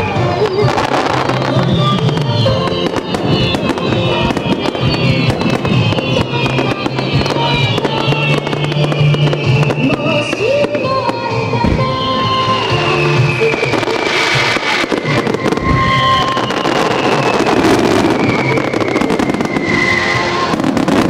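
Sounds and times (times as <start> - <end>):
firework crackling: 0.0 - 21.0
music playing: 0.0 - 21.0.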